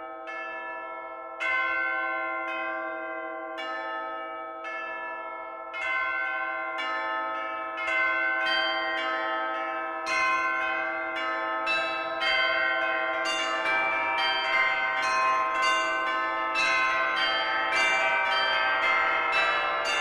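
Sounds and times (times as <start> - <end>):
church bells pealing: 0.0 - 20.0.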